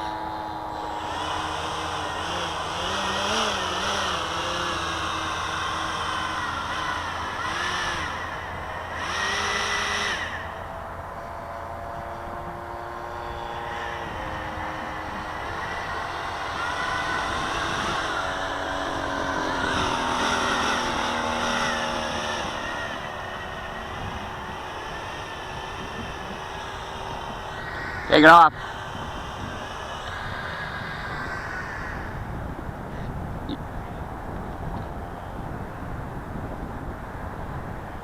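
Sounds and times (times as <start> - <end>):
model airplane motor whining: 0.0 - 38.0.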